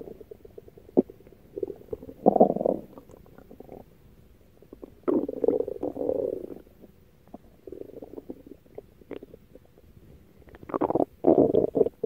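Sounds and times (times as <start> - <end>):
stomach growling: 0.0 - 3.9, 4.7 - 9.7, 10.5 - 12.0.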